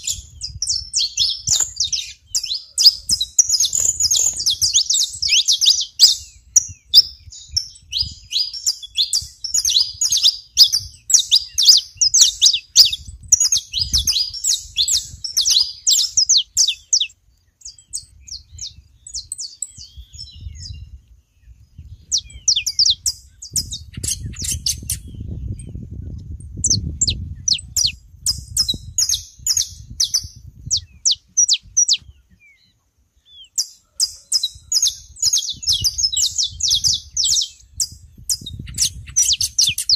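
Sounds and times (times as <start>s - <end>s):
finches chirping: 0.0s - 25.8s, 26.6s - 39.9s.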